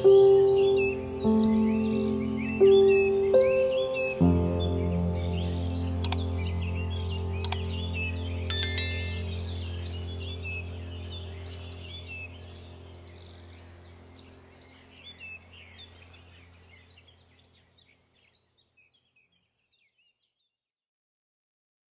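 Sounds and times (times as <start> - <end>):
small birds chirping: 0.0 - 20.5.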